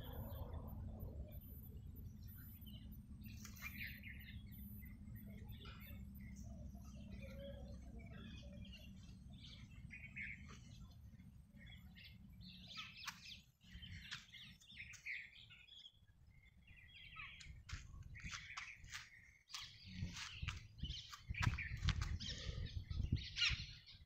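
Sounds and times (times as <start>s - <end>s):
faint low rumble: 0.0s - 23.7s
small birds chirping: 0.0s - 24.0s.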